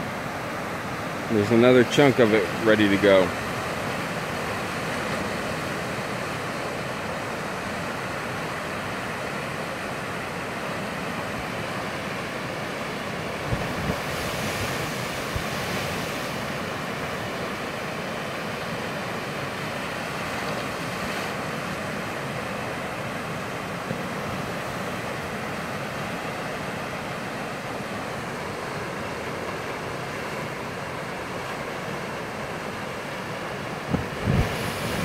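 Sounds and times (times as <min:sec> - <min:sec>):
floodwater rushing down creek: 0:00.0 - 0:35.0.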